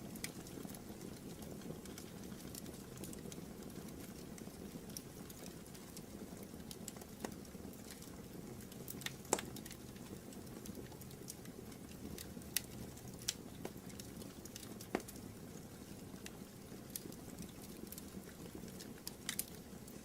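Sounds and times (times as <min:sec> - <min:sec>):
fire popping and snapping: 0:00.0 - 0:20.0.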